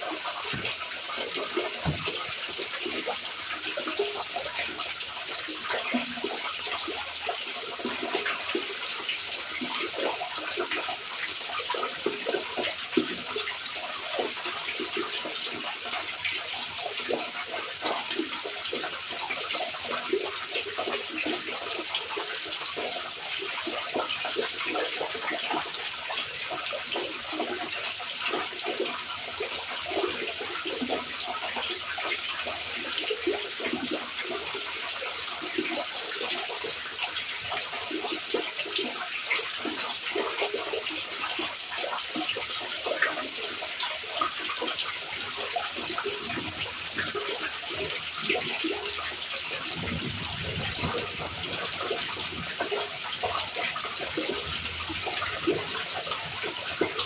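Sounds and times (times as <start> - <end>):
steady rain with drips: 0.0 - 57.0.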